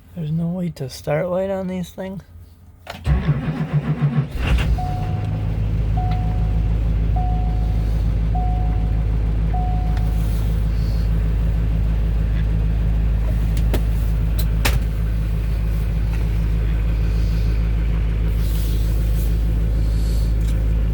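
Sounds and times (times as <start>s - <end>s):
diesel bus engine idling: 2.4s - 20.9s.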